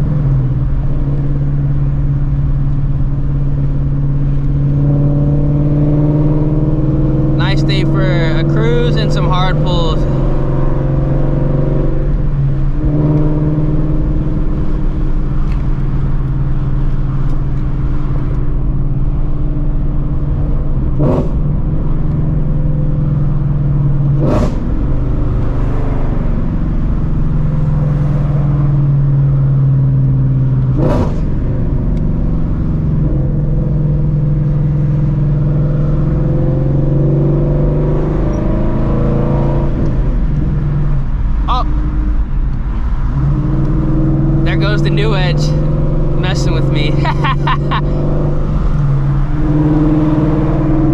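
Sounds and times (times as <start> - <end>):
loud car engine cruising: 0.0 - 50.9.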